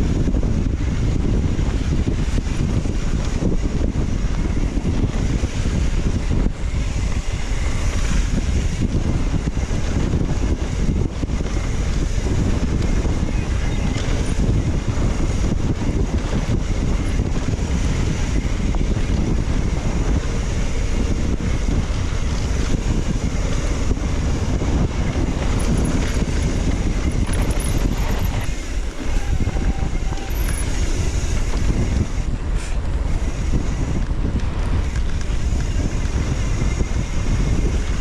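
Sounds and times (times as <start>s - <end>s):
wind rumble on microphone: 0.0s - 38.0s.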